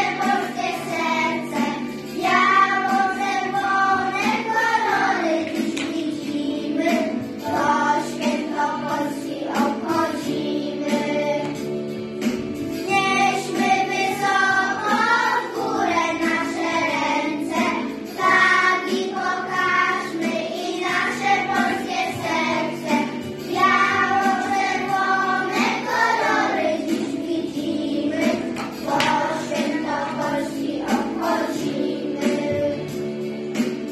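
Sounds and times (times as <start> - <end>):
children singing in unison: 0.0 - 33.9
instrumental accompaniment: 0.0 - 33.9.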